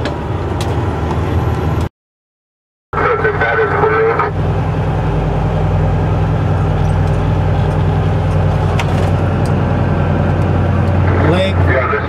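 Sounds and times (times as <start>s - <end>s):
diesel truck engine droning: 0.0s - 1.9s, 3.0s - 12.0s.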